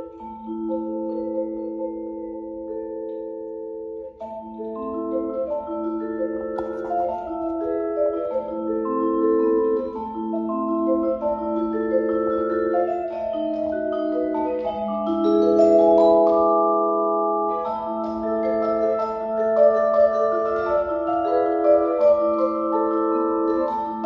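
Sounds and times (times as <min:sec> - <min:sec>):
vibraphone played with mallets: 0:00.0 - 0:24.0.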